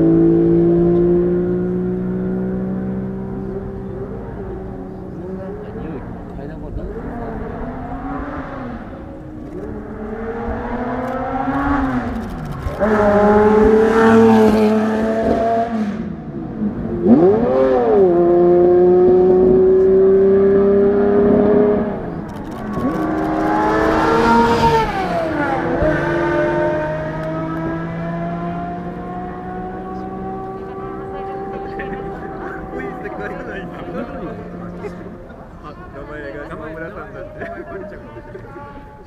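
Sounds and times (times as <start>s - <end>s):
supercar engines revving past: 0.0s - 37.4s.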